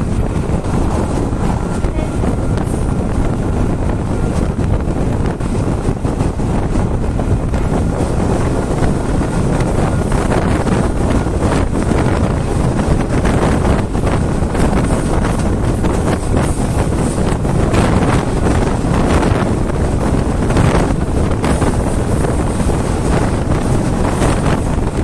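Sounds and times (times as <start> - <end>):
train running rumble: 0.0 - 25.0
wind buffeting microphone: 0.0 - 25.0.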